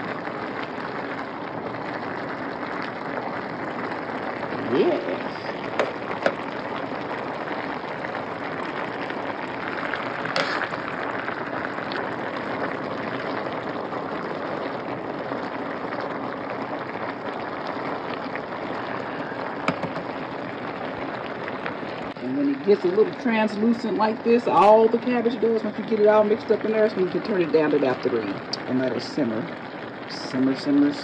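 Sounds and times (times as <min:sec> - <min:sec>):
cabbage sizzling and bubbling: 0:00.0 - 0:31.0.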